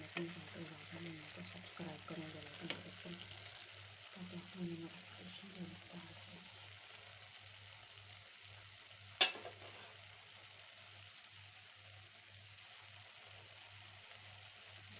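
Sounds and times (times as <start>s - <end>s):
pot sizzling on stove: 0.0s - 14.9s.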